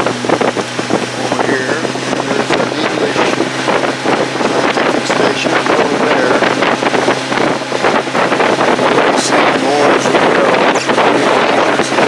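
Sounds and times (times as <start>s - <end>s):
outboard motor humming: 0.0s - 12.0s
wind buffeting microphone: 0.0s - 12.0s.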